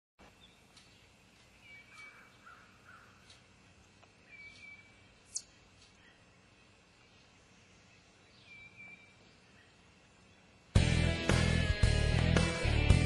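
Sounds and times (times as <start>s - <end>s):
distant bird calls: 0.2s - 10.8s.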